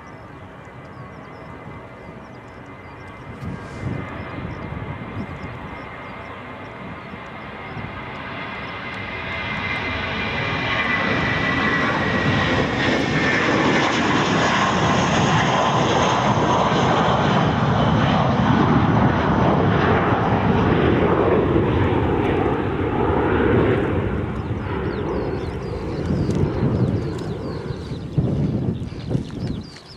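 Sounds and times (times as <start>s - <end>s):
aircraft engines passing close: 0.0s - 29.9s.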